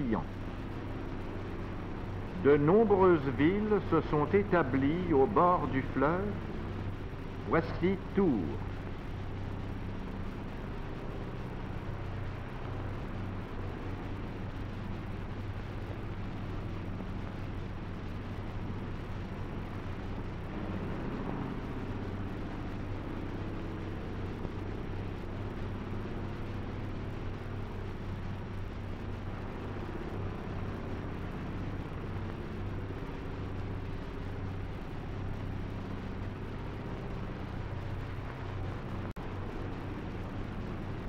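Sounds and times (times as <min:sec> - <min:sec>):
propeller aeroplane engine drone: 0:00.0 - 0:41.0.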